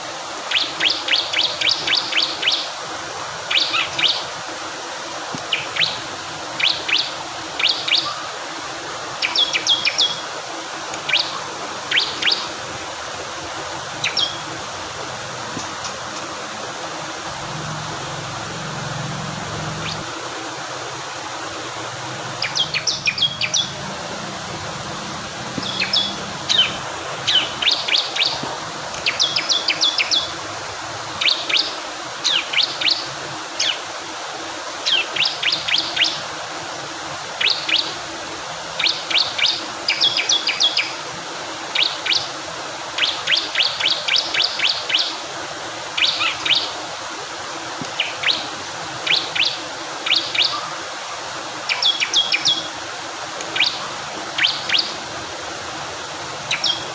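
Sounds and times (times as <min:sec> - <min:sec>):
flowing water rushing: 0:00.0 - 0:56.9.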